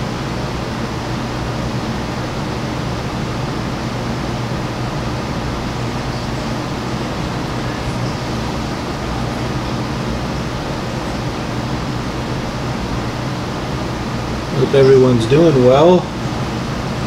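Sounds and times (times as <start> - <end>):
constant low hum: 0.0 - 17.0
steady hiss: 0.0 - 17.0.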